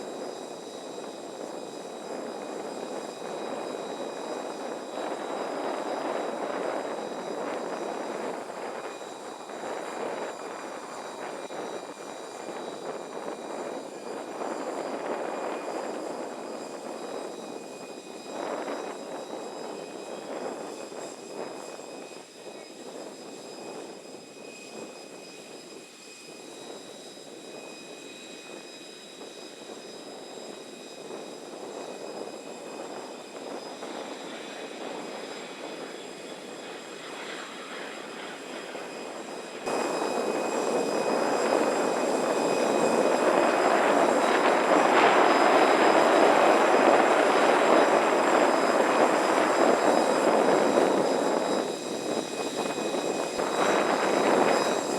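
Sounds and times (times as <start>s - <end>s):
high-pitched jet whine: 0.0s - 54.9s
jet engine rushing hum: 0.0s - 54.9s.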